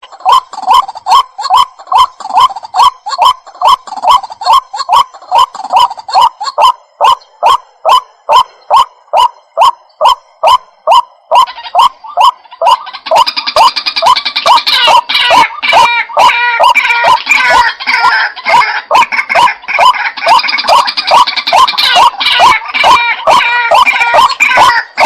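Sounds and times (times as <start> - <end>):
bird croaking calls: 0.0 - 25.0.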